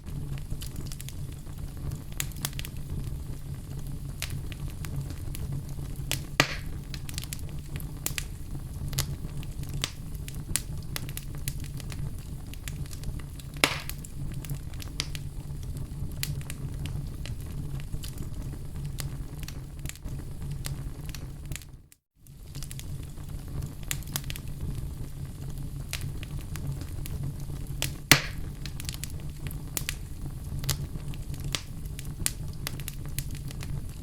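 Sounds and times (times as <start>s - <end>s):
fire pops: 0.0s - 34.0s
wood fire crackling: 0.0s - 34.0s.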